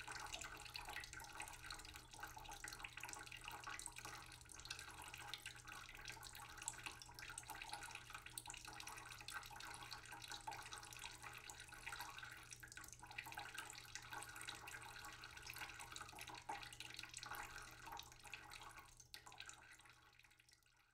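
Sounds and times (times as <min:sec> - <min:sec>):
faint trickling water: 0:00.0 - 0:20.9.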